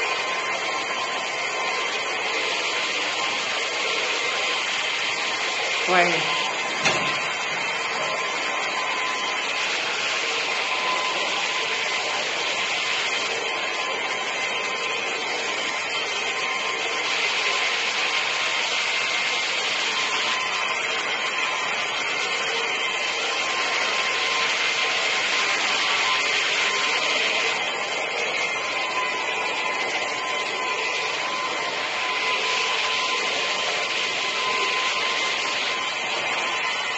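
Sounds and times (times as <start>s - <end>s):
hand brush scrubbing rug: 0.0s - 36.9s
vacuum machine motor whine: 0.0s - 36.9s.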